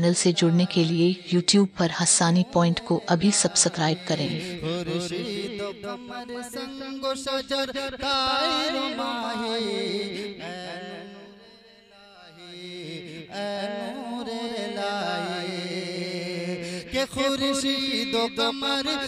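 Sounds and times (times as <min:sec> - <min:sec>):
man singing through a microphone: 0:00.0 - 0:19.0.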